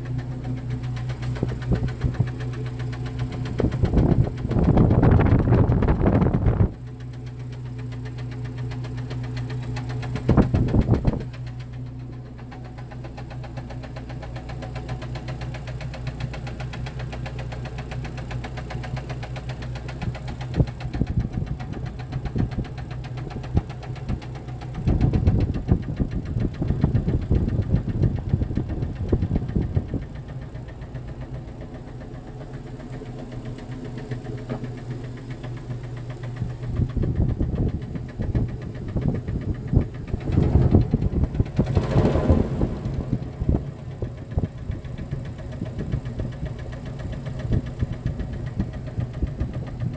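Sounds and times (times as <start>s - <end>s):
engine running with rapid knock: 0.0s - 49.9s.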